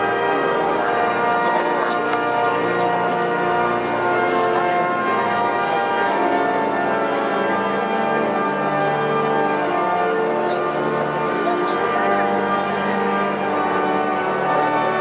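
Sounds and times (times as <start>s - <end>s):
pipe organ playing held chords: 0.0s - 15.0s.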